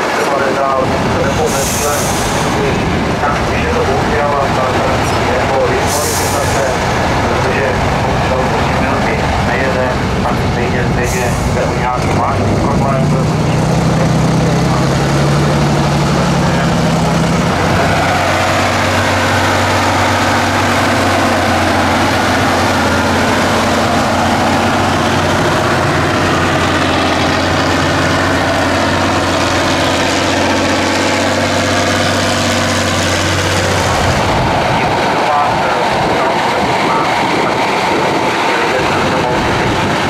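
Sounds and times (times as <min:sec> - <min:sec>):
truck diesel engine under load: 0:00.0 - 0:40.0.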